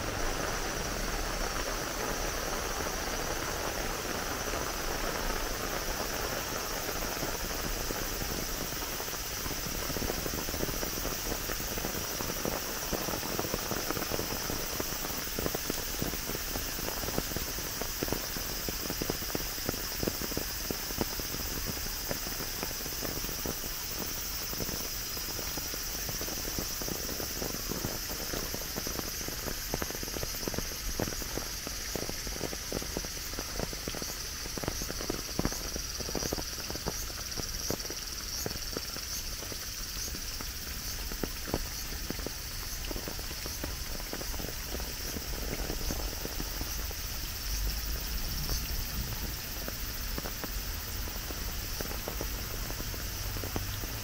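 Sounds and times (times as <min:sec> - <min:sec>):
insects chorus: 0:00.0 - 0:54.0
steady hiss: 0:00.0 - 0:54.0.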